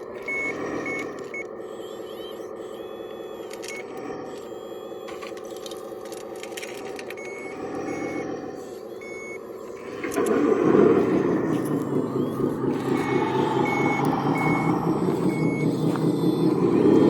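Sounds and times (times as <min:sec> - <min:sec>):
high reversing beeps: 0:00.0 - 0:17.0
model machine motor hum: 0:00.0 - 0:17.0
rough mechanical noise: 0:00.0 - 0:17.0.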